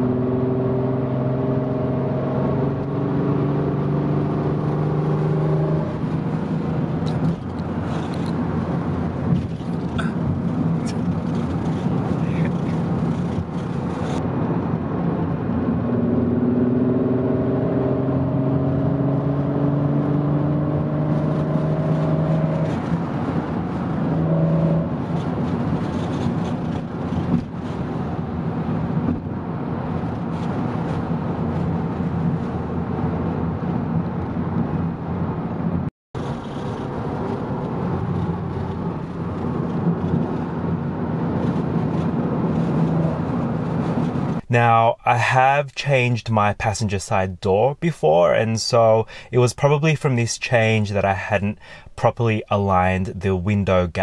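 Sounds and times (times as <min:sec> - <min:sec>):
wind and tyre noise: 0:00.0 - 0:44.6
car engine drone: 0:00.0 - 0:54.0.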